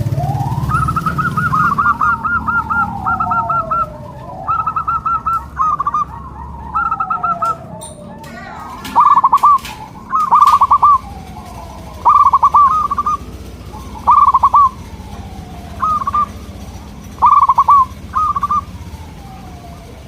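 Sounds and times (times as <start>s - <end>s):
faint falling bird calls: 0.0s - 19.4s
dove rolling coos: 0.0s - 20.0s.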